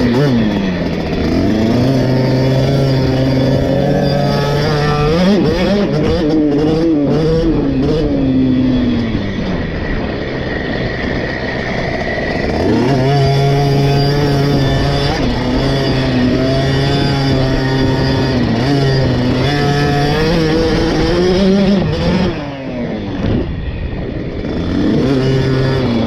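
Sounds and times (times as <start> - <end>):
two-stroke minibike engine revving: 0.0 - 26.0.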